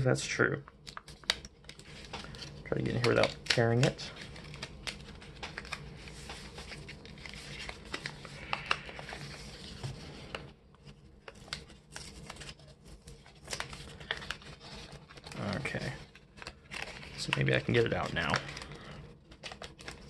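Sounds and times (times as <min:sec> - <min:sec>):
paper packaging crinkling: 0:00.8 - 0:20.0.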